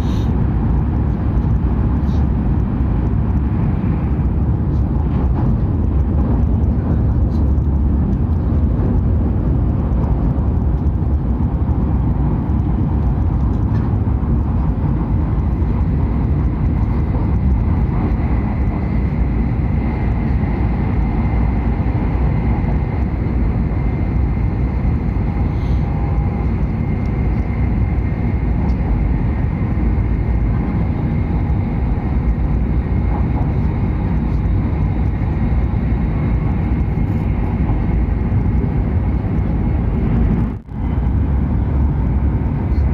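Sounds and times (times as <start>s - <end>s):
train rolling rumble: 0.0s - 42.9s.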